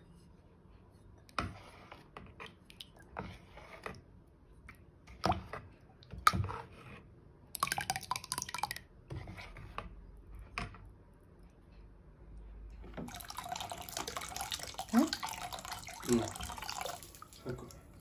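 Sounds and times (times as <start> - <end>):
batter stirring wet squishing: 0.9 - 18.0.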